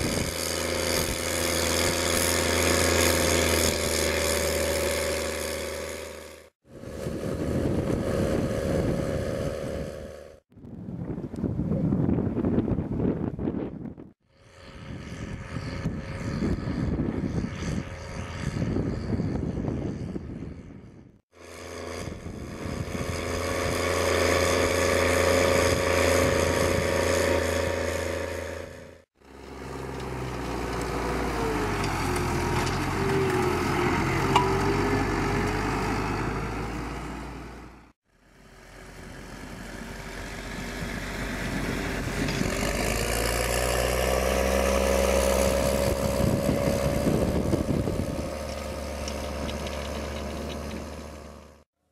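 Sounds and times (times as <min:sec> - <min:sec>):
tractor diesel engine under load: 0:00.0 - 0:10.4, 0:14.2 - 0:51.7.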